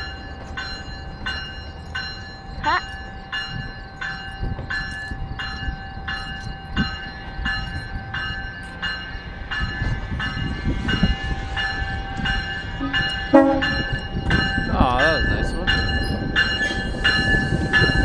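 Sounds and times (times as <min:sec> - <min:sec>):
low rumble of moving train: 0:00.0 - 0:18.0
train bell ringing: 0:00.0 - 0:18.0.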